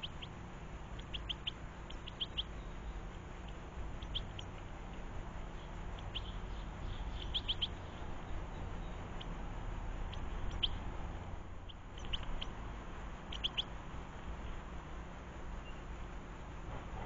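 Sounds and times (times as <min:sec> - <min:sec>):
finches chirping: 0:00.0 - 0:13.8, 0:15.6 - 0:15.9.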